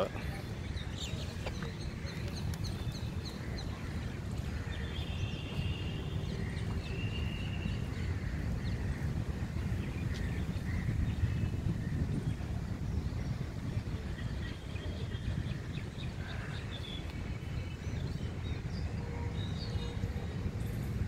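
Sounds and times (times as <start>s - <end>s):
birds chirping and calling: 0.0s - 20.2s.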